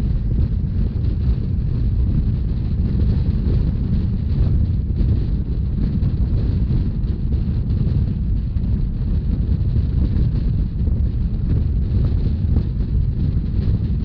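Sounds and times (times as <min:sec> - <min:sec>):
train rumble: 0:00.0 - 0:14.0
wind buffeting microphone: 0:00.0 - 0:14.0.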